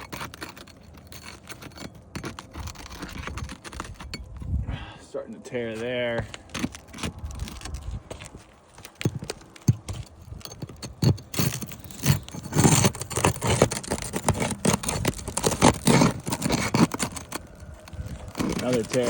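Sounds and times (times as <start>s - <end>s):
pry bar scraping shingles: 0.0s - 4.6s, 5.5s - 19.0s
shingles tearing: 0.0s - 4.6s, 5.7s - 19.0s
wind rumble on microphone: 2.2s - 5.0s, 6.2s - 19.0s.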